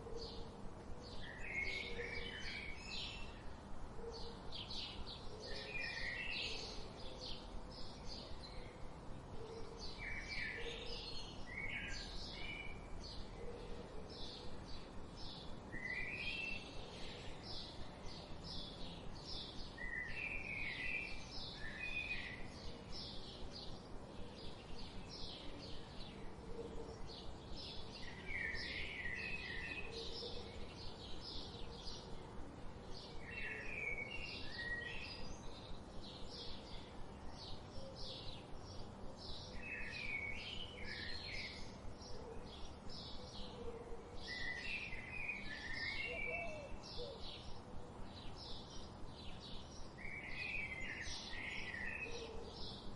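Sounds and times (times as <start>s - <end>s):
bird chirping: 9.4s - 32.2s, 32.8s - 52.9s.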